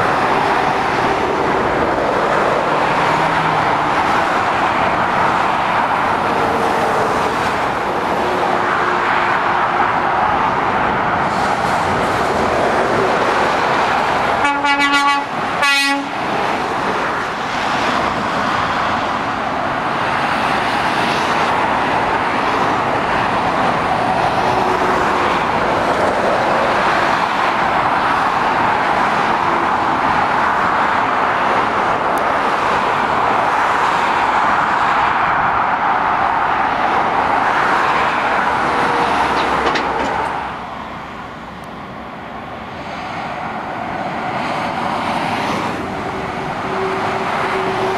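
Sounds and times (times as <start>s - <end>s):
heavy truck engines: 0.0s - 47.9s
motorway traffic tyre noise: 0.0s - 47.9s.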